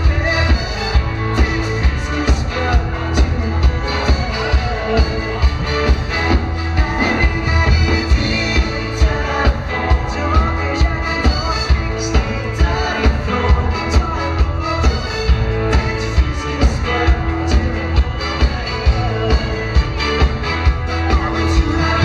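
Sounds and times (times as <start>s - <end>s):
drums playing steady beat: 0.0s - 22.0s
electric guitars: 0.0s - 22.0s
keyboard: 0.0s - 22.0s.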